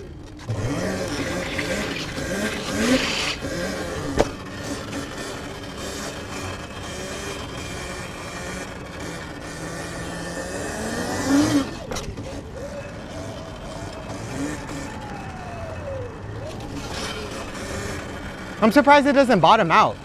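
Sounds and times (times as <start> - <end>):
electric dirt bike motor whining: 0.0 - 20.0
tyre noise: 0.3 - 20.0.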